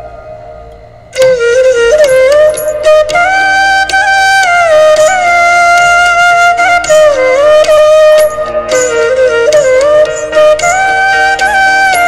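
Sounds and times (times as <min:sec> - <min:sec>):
flute melody: 0:00.0 - 0:12.0.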